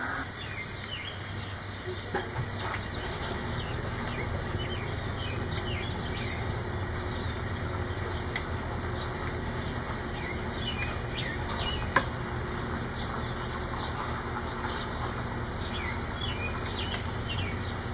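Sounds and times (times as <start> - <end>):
steady rain falling: 0.0 - 17.9
sharp drips and taps: 1.8 - 17.9.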